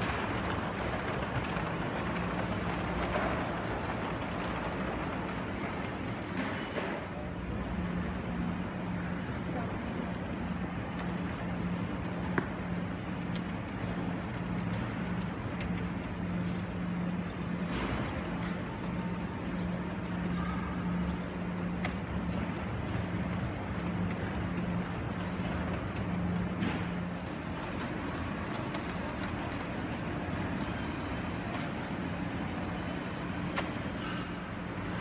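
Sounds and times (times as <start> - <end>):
wheel rumble on track: 0.0 - 35.0.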